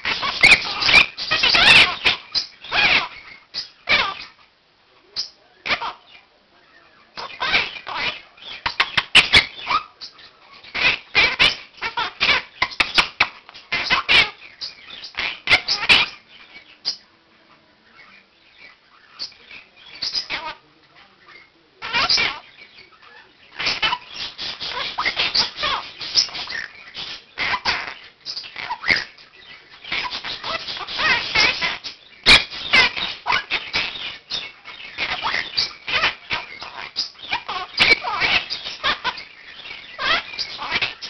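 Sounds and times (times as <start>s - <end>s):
caged birds calling and chattering: 0.0s - 41.0s.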